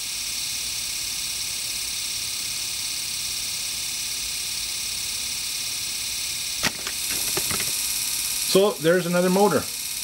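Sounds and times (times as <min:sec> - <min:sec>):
treadmill motor hiss and hum: 0:00.0 - 0:10.0.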